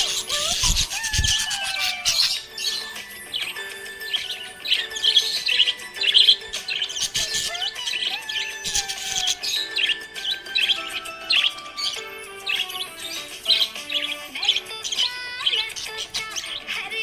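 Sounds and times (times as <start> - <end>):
background music with held tones: 0.0 - 17.0
budgerigar chirping: 0.0 - 17.0.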